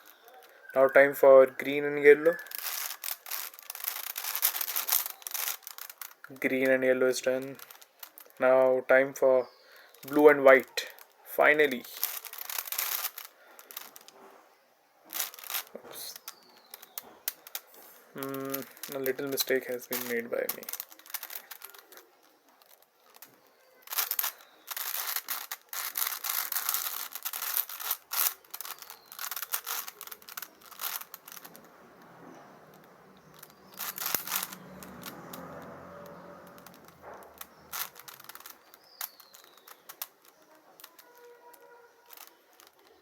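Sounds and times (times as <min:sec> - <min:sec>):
puzzle cube clicking and scraping: 0:00.0 - 0:08.7, 0:09.4 - 0:14.4, 0:15.1 - 0:43.0.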